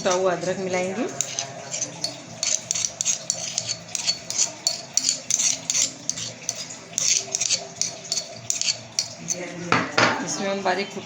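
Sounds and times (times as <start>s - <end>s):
metal spoon scraping a dish: 0.0s - 9.7s.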